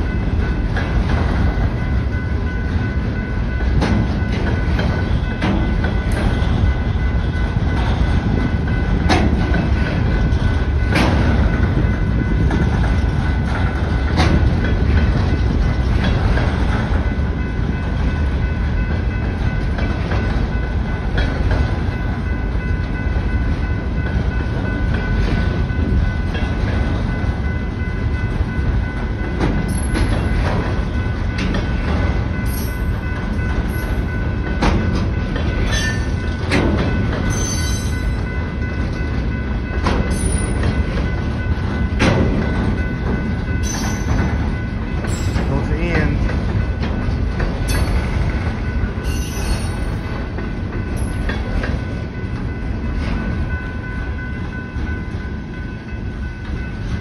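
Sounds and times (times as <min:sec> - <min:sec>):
wheels clacking over rail joints: 0:00.0 - 0:27.6, 0:28.2 - 0:53.6
freight train rumbling: 0:00.0 - 0:57.0.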